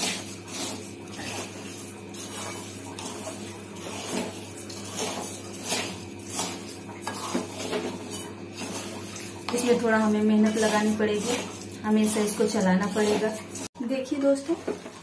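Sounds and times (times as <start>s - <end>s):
wooden spatula scraping sugar in pan: 0.0s - 15.0s.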